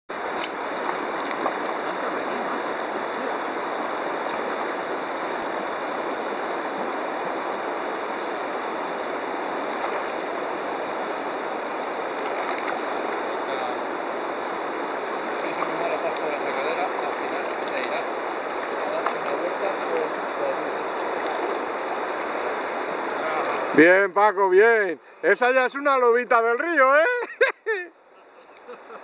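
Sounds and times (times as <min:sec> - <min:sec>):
river water rushing: 0:00.1 - 0:25.6.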